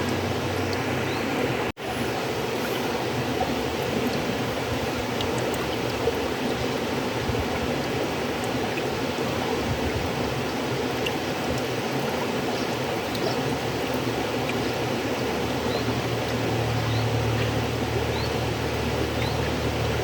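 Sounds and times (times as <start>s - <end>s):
river water flowing: 0.0s - 20.0s
small water splashes: 0.0s - 20.0s.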